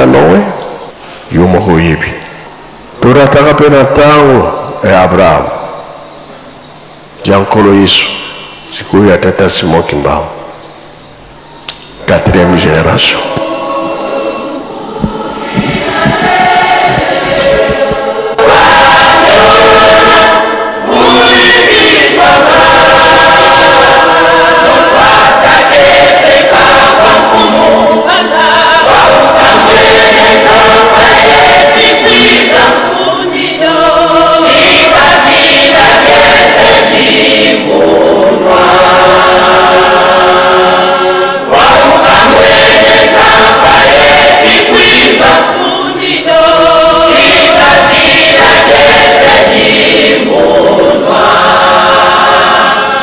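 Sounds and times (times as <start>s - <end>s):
church choir singing: 0.0s - 11.4s, 12.0s - 53.0s.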